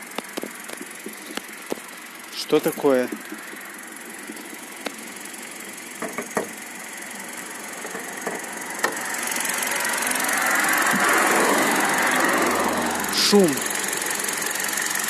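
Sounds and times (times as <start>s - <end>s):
car engine running: 0.0s - 15.0s
engine chattering noise: 0.0s - 15.0s.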